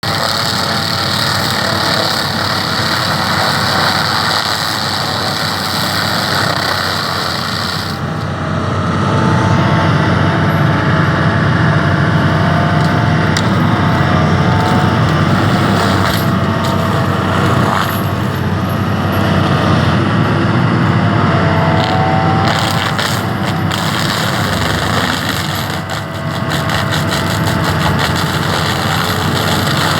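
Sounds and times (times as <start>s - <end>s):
forestry mulcher running: 0.0s - 29.9s
wavering whine: 0.2s - 29.9s.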